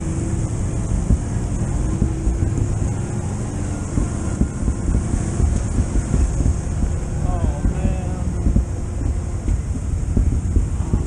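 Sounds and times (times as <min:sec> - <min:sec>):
wind thumps on microphone: 0:00.0 - 0:03.1, 0:03.8 - 0:11.0.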